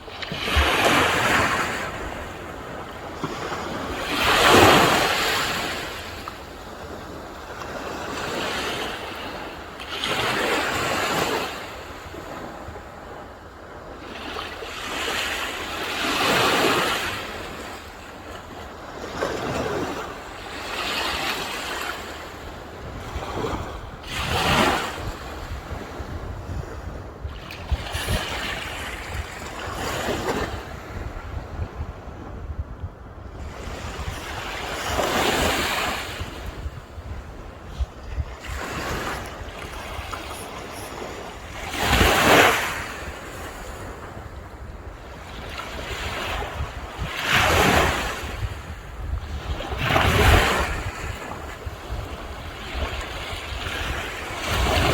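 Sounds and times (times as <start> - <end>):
sea waves breaking on shore: 0.0 - 54.9
wind rumble on microphone: 0.0 - 54.9.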